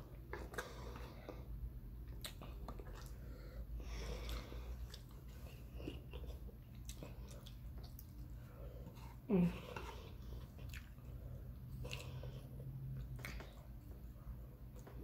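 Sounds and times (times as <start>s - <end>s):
chewing soft food: 0.0s - 15.0s.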